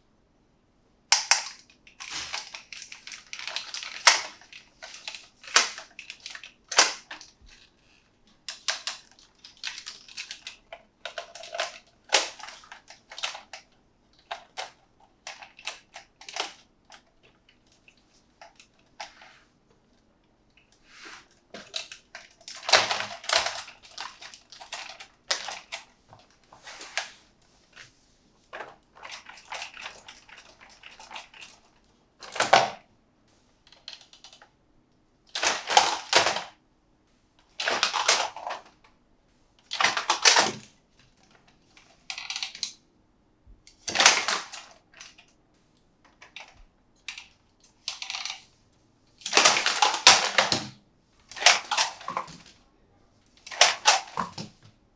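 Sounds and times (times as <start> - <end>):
plastic and cardboard crinkling: 1.2 - 19.9, 20.6 - 32.8, 35.3 - 36.6, 37.4 - 38.8, 39.6 - 42.8, 43.7 - 45.4, 46.1 - 52.7, 53.3 - 54.8.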